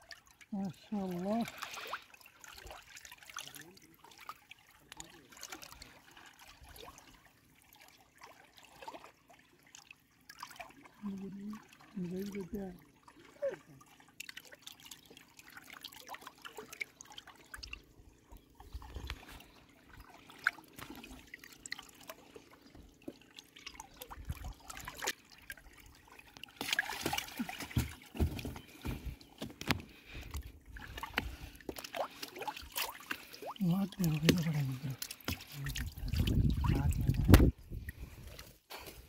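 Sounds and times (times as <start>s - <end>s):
river water sloshing: 0.0s - 39.0s
small water splashes: 0.0s - 39.0s.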